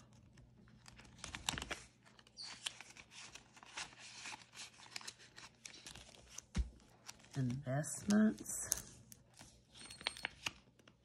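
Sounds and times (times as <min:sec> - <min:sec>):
banknotes and plastic rustling: 0:00.0 - 0:11.0.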